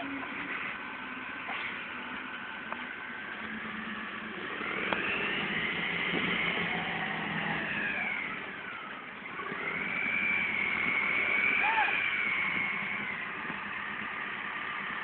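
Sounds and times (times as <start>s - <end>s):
high engine whine: 0.0s - 15.0s
tractor engine under load: 0.0s - 15.0s.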